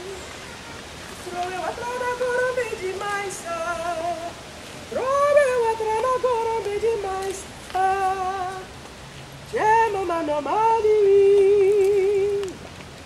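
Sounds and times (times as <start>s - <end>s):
woman singing unaccompanied: 0.0s - 8.8s, 9.5s - 12.6s.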